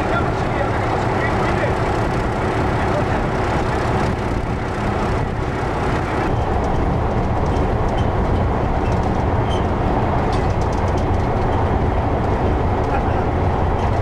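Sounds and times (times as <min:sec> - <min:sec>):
locomotive engine rumble: 0:00.0 - 0:14.0
faint clicks and rattles: 0:01.0 - 0:14.0.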